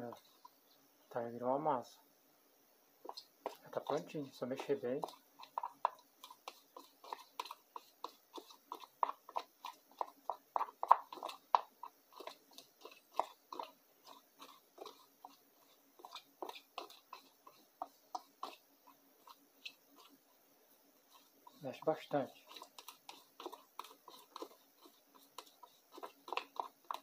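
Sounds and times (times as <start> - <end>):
metal utensil stirring thick paste: 0.0 - 0.6, 3.0 - 27.0.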